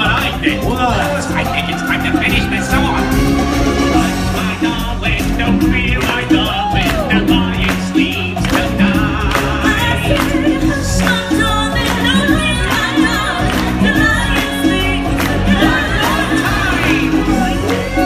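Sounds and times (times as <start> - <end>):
steady drum beat: 0.0 - 18.0
voices singing with vibrato: 0.0 - 18.0.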